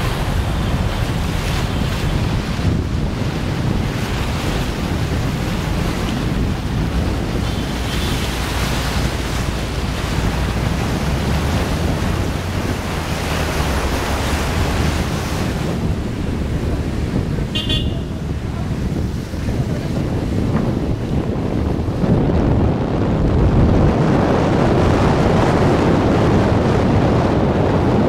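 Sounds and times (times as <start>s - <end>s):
car engine low rumble: 0.0s - 28.0s
water rushing against car: 0.0s - 28.0s.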